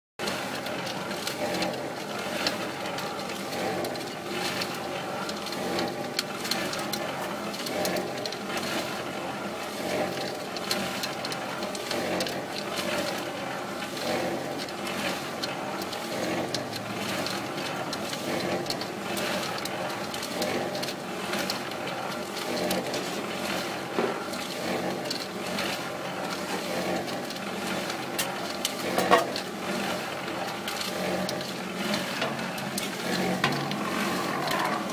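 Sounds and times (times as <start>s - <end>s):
cement mixer motor running: 0.2s - 34.9s.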